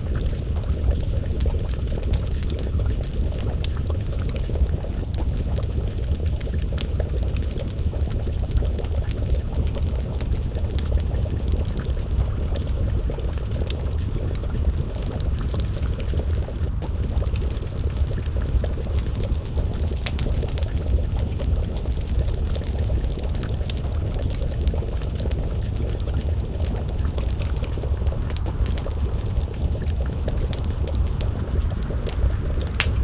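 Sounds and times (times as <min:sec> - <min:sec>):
pot of stew bubbling: 0:00.0 - 0:33.0
wood fire crackling: 0:00.0 - 0:33.0.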